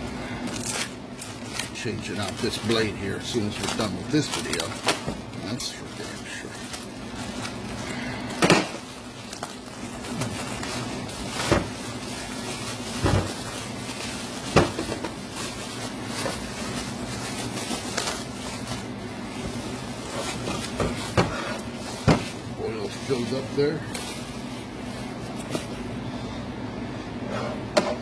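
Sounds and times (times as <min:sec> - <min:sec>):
bubble wrap rustling: 0:00.0 - 0:26.0
steady low hum: 0:00.0 - 0:28.0.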